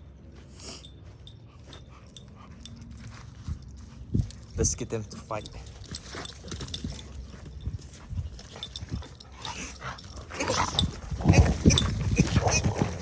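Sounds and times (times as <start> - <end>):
dogs scuffling: 2.5 - 13.0.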